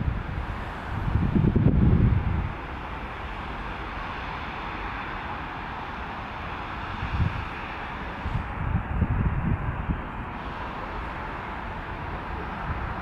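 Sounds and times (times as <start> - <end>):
jet engine noise: 0.0 - 13.0
wind buffeting microphone: 0.0 - 13.0.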